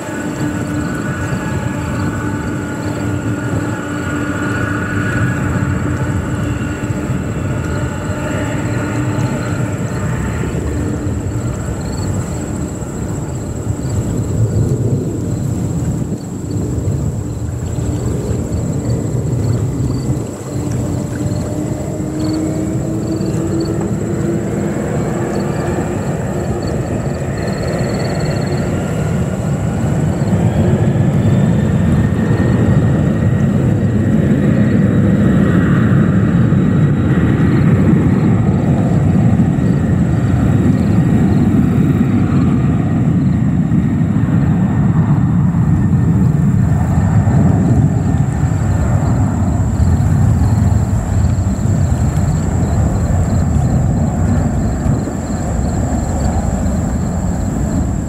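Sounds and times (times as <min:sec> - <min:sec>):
jet engines at takeoff: 0:00.0 - 0:58.0.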